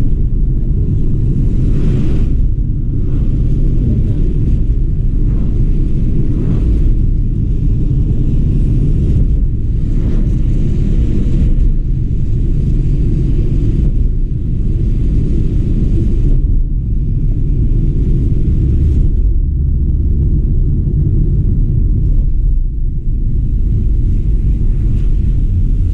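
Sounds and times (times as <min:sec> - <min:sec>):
car engine and road rumble: 0:00.0 - 0:25.9.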